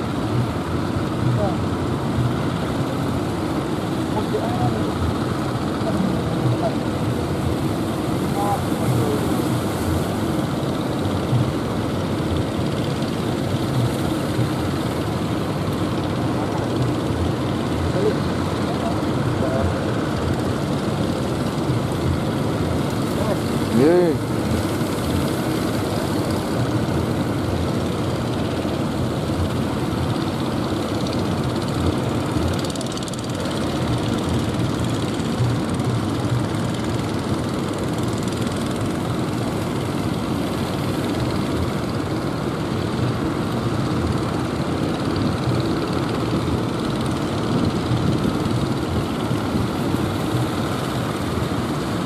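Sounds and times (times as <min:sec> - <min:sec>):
boat engines rumbling: 0:00.0 - 0:52.0
waves washing: 0:00.0 - 0:52.0.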